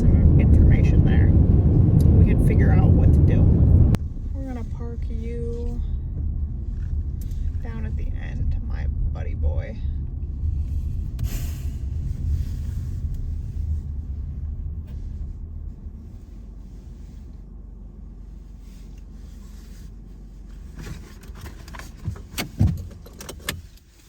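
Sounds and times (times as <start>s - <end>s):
car engine rumble from inside cabin: 0.0s - 24.0s.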